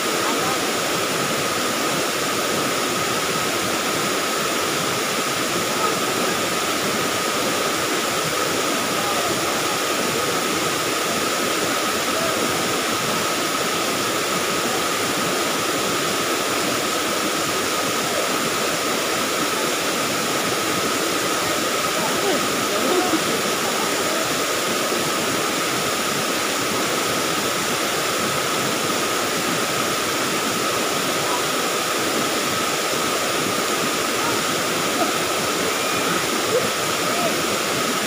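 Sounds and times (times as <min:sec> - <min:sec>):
waterfall and rapids rushing: 0:00.0 - 0:38.0.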